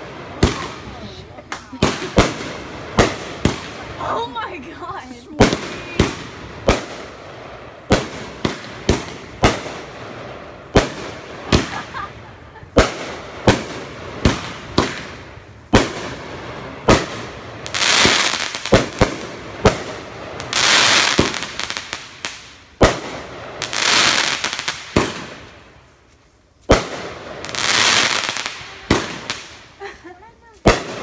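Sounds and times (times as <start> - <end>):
fireworks bangs: 0.0 - 25.8, 26.6 - 31.0
hissing crackle of fireworks: 0.0 - 31.0.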